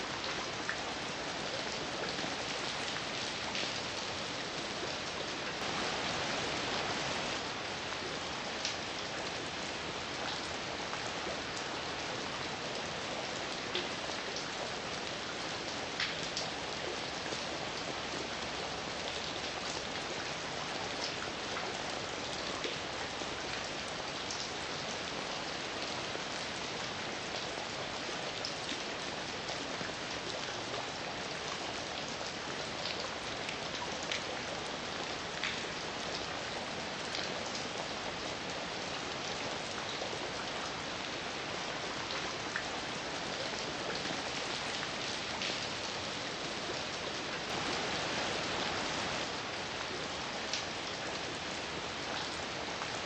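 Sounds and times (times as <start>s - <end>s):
steady rain falling: 0.0s - 53.0s
raindrops ticking on a surface: 0.1s - 53.0s.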